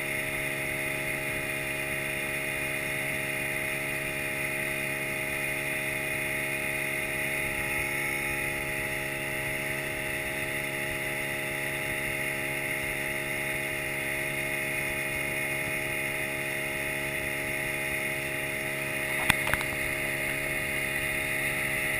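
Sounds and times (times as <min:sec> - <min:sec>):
outboard motor running: 0:00.0 - 0:21.9.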